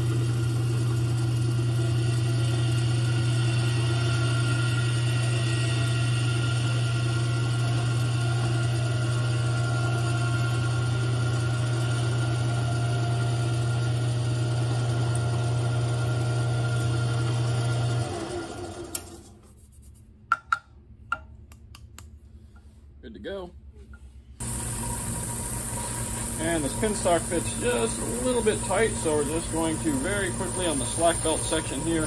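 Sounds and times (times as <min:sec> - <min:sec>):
drill press humming: 0:00.0 - 0:19.3, 0:24.4 - 0:32.0
motor winding down: 0:00.0 - 0:19.3, 0:24.4 - 0:32.0.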